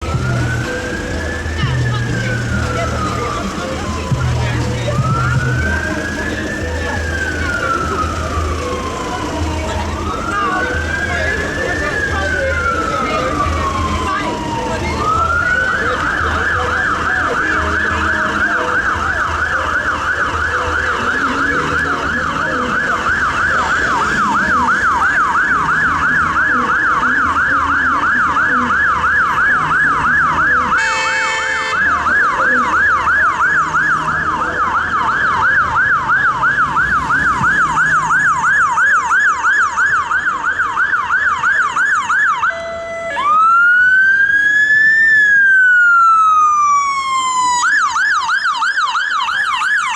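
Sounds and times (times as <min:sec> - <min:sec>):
ambulance siren: 0:00.0 - 0:49.9.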